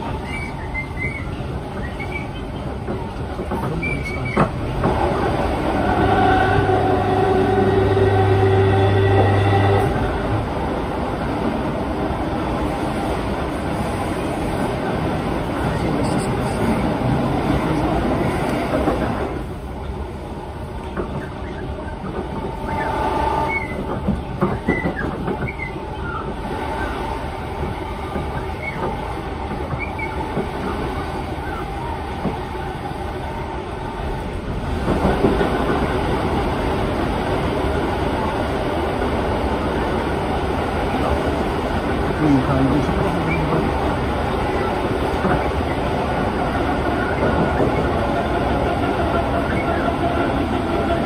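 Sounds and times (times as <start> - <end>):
train wheels rumbling on track: 0.0 - 51.0.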